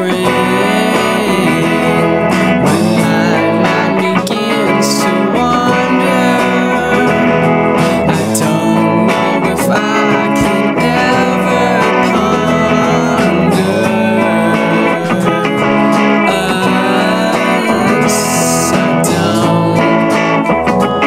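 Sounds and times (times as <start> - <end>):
guitar-led song: 0.0 - 21.0.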